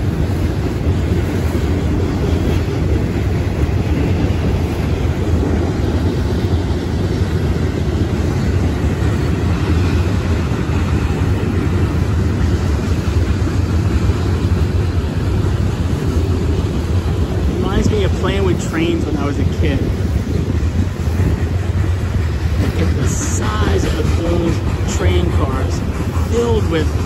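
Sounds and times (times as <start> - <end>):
freight train rumbling: 0.0 - 27.0.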